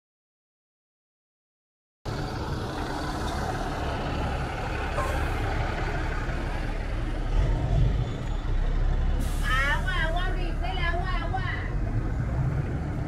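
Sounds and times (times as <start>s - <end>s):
bus diesel engines rumbling: 2.1s - 13.0s.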